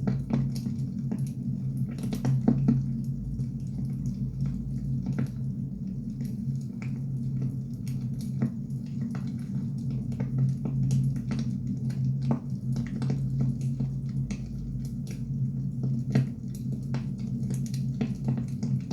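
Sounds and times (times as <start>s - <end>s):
fire low rumble: 0.0s - 18.9s.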